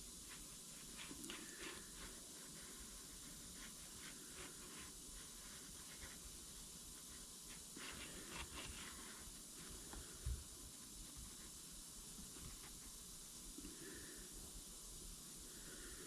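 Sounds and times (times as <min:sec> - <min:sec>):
steady hiss: 0:00.0 - 0:16.0
faint scratching on plastic: 0:00.2 - 0:13.9.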